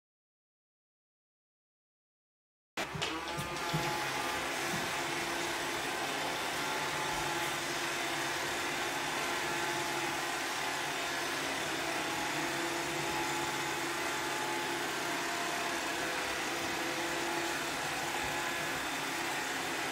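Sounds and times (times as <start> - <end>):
robot vacuum running: 2.8 - 19.9.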